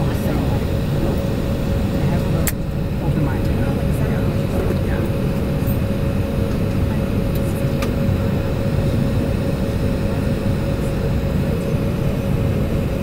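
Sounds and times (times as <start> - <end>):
jet engines idling hum: 0.0 - 13.0.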